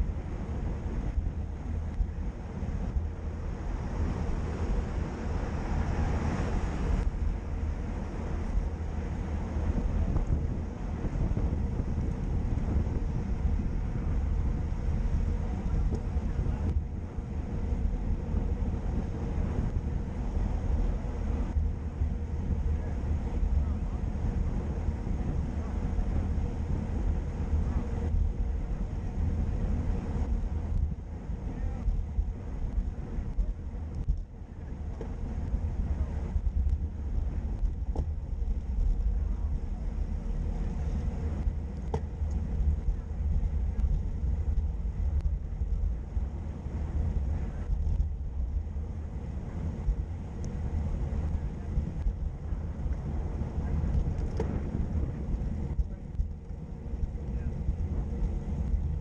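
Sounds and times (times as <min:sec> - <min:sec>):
low road rumble: 0:00.0 - 0:59.0
wind buffeting microphone: 0:00.0 - 0:59.0.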